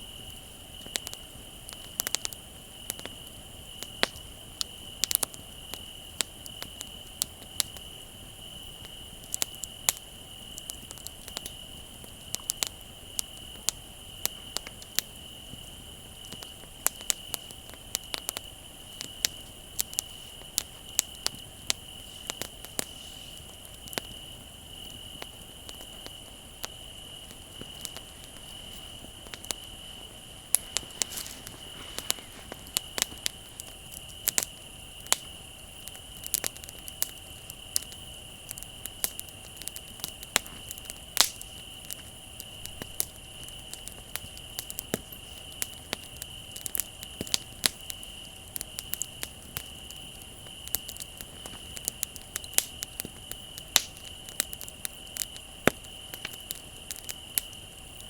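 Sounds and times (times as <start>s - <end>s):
bonfire crackling and popping: 0.0s - 58.0s
crickets chirping: 0.0s - 58.0s.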